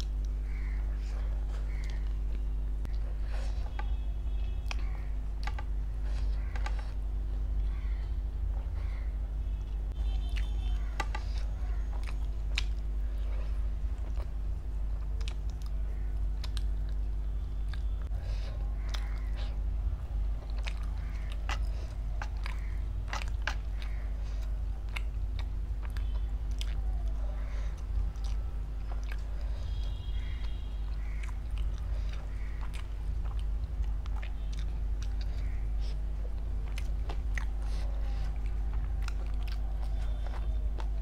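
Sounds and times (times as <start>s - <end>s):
person chewing food: 0.0s - 41.0s
steady low hum: 0.0s - 41.0s.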